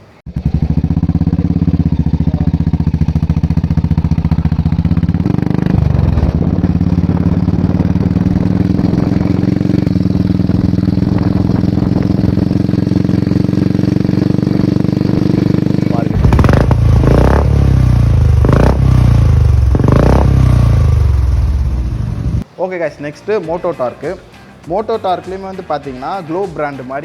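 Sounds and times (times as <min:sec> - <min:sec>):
motorcycle engine idling: 0:00.3 - 0:22.4.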